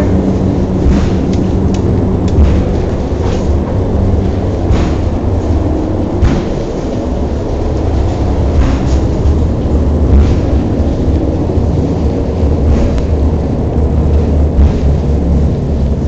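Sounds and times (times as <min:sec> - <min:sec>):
funicular car rumbling: 0:00.0 - 0:16.0.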